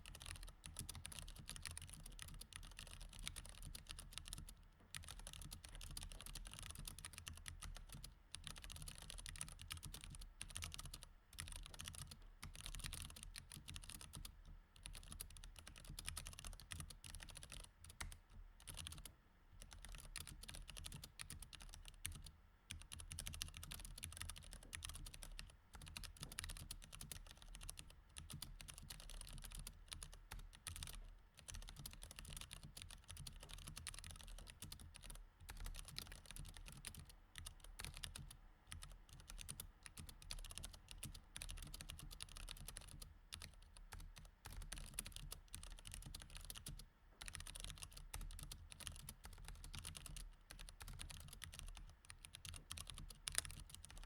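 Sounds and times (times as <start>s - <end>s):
mechanical keyboard typing: 0.1s - 54.0s.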